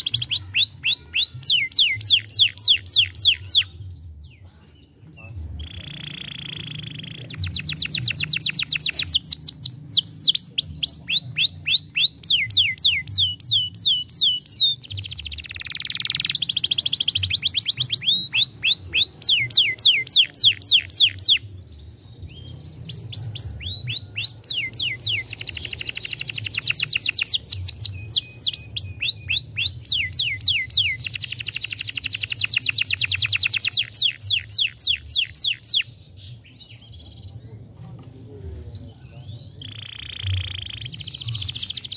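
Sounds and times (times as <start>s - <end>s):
canary singing trills: 0.0s - 37.6s, 38.8s - 41.9s.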